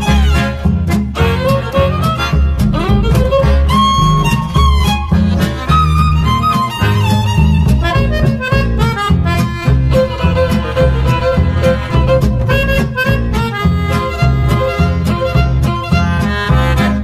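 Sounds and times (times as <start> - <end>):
country-western instrumental music: 0.0 - 17.0.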